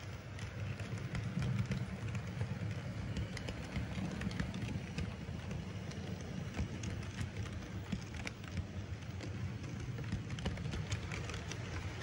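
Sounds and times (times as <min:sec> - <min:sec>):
light track clicks: 0:00.0 - 0:12.0
model train rumbling: 0:00.0 - 0:12.0.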